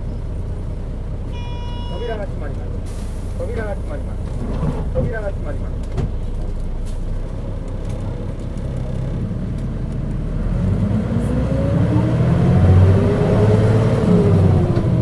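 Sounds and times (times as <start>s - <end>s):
bus engine and drive whine: 0.0s - 15.0s.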